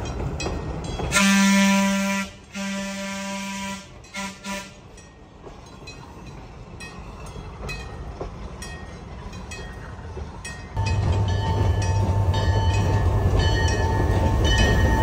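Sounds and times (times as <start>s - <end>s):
train rumble: 0.0s - 15.0s
train wheels clicking over rail joints: 0.0s - 15.0s.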